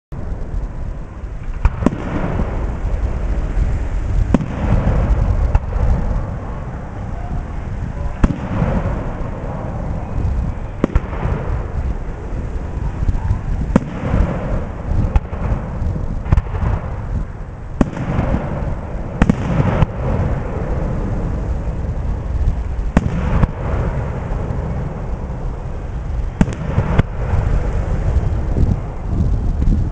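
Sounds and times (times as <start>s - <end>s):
rolling rumble and crackle: 0.1s - 29.9s
fireworks bangs: 0.2s - 29.9s.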